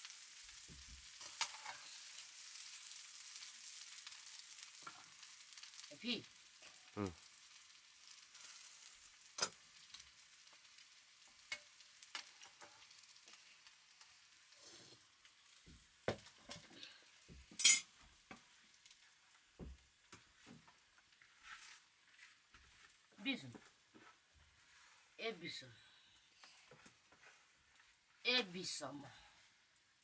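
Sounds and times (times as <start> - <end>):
noodles frying in a wok: 0.0 - 30.0.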